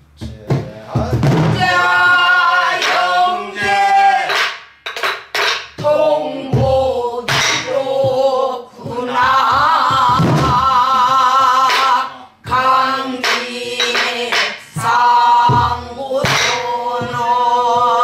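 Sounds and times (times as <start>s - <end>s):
group singing folk song: 0.4s - 4.6s, 5.8s - 18.0s.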